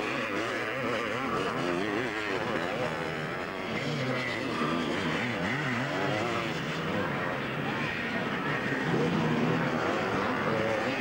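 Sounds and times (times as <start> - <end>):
motocross bikes revving: 0.0 - 11.0.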